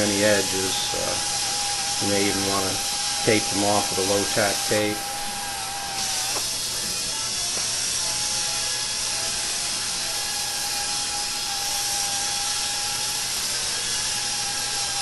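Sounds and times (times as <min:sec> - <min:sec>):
handheld buffer whining: 0:00.0 - 0:15.0.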